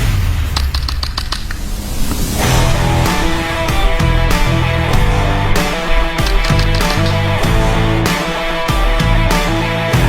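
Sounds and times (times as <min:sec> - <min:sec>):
drums: 0:00.0 - 0:10.0.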